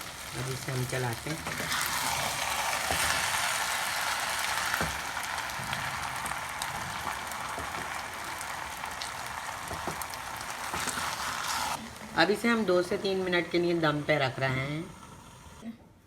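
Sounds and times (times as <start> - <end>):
rice sizzling and crackling: 0.0 - 15.6.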